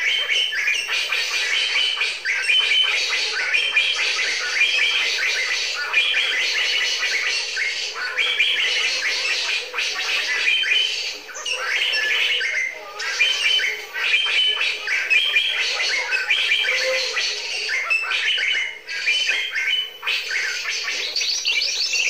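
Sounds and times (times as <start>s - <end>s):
small birds chattering: 0.0s - 22.0s.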